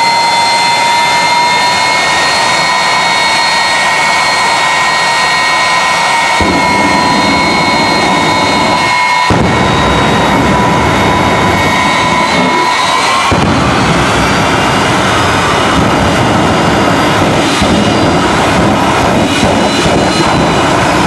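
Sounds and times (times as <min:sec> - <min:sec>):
afterburner deep roar: 0:00.0 - 0:21.0
turbine engine whine: 0:00.0 - 0:21.0.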